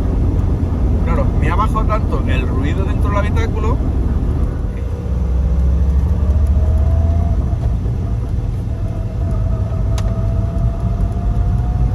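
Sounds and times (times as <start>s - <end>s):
car engine and road rumble: 0.0s - 11.9s.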